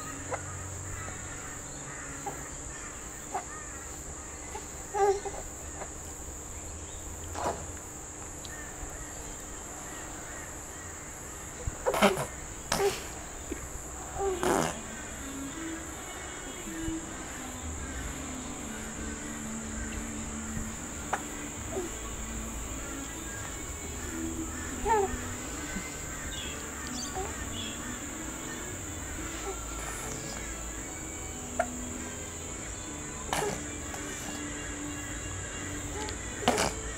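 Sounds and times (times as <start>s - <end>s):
faint music of held notes: 0.0s - 36.9s
steady high-pitched whine: 0.0s - 36.9s.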